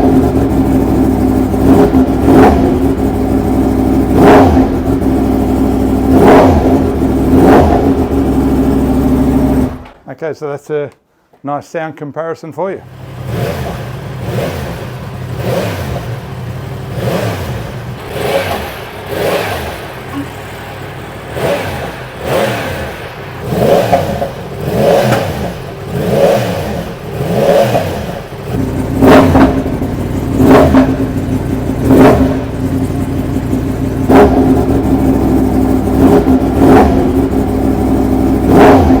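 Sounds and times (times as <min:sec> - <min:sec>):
motorcycle engine revving: 0:00.0 - 0:10.0, 0:12.8 - 0:39.0.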